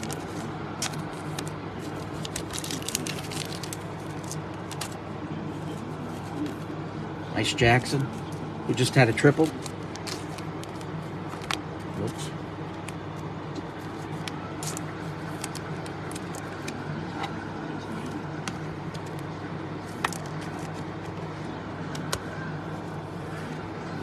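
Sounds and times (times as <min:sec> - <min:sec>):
trading cards clicking and flipping: 0:00.0 - 0:05.0, 0:07.8 - 0:22.4
steady low hum: 0:00.0 - 0:24.0.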